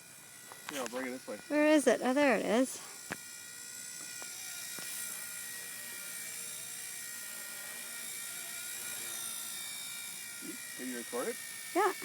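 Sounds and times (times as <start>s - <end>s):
toy helicopter motor whine: 0.0s - 12.0s.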